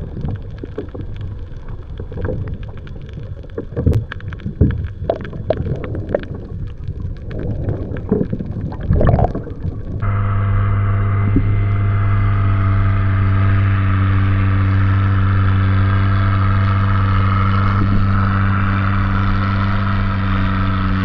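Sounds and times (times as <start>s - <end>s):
steady low water rush: 0.0s - 21.0s.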